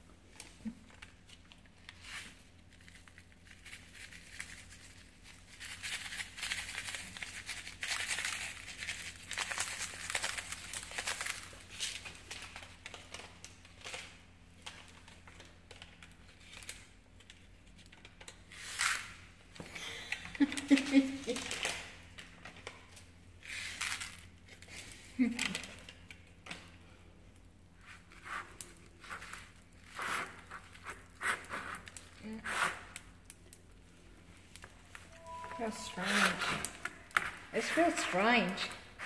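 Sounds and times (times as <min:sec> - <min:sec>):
candy packet crinkling: 0:00.6 - 0:19.2, 0:20.0 - 0:26.6, 0:27.8 - 0:39.0.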